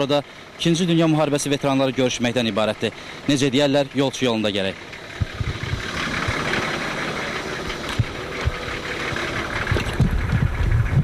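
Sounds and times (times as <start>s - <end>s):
off-road engines idling: 0.0s - 11.0s.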